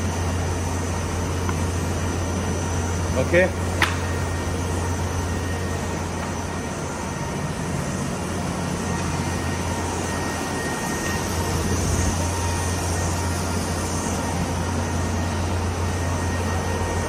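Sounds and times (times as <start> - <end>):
grooving machine humming and whining: 0.0 - 17.0.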